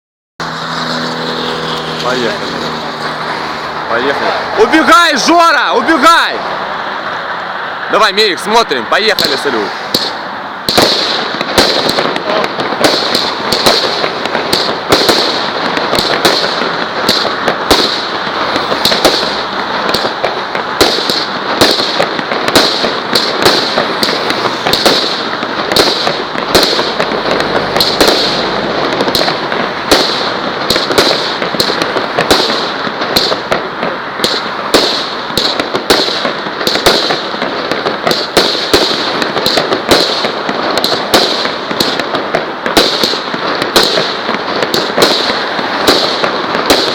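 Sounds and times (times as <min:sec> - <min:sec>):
fireworks crackling: 0:00.4 - 0:46.9
fireworks exploding: 0:00.4 - 0:46.9.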